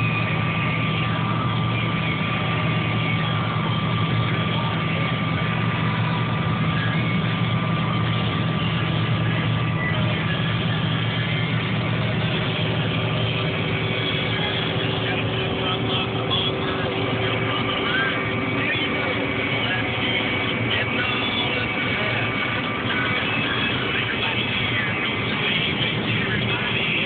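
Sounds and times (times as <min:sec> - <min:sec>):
combine harvester engine drone: 0:00.0 - 0:27.0
thin steady whine: 0:00.0 - 0:27.0.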